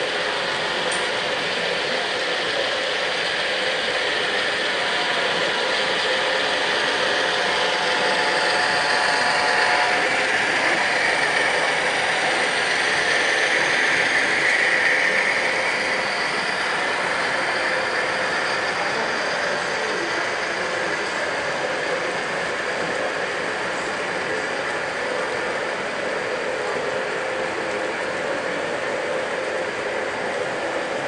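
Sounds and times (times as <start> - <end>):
model train motors whirring: 0.0 - 31.0.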